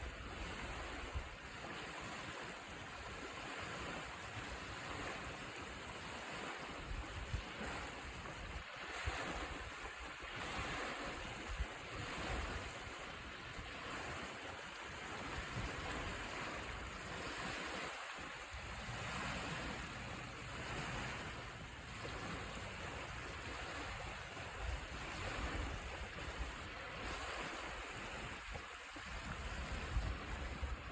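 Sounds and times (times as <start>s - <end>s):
ocean waves breaking: 0.0s - 30.9s
wind rumble on microphone: 0.0s - 30.9s.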